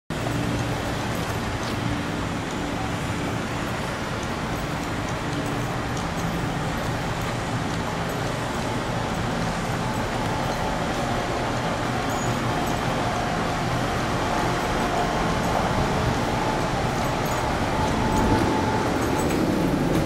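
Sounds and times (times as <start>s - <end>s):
diesel railcar engine running: 0.1s - 20.0s.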